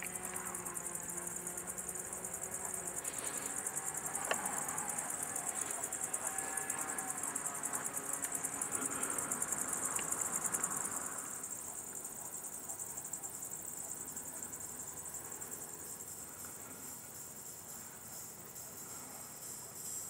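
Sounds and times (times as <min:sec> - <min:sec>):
cicadas buzzing: 0:00.0 - 0:20.0.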